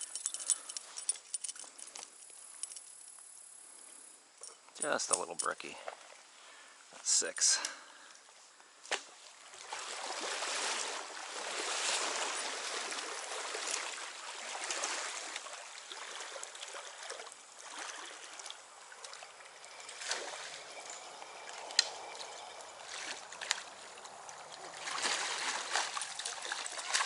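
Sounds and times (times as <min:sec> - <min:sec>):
creek water trickling: 0:00.0 - 0:27.0.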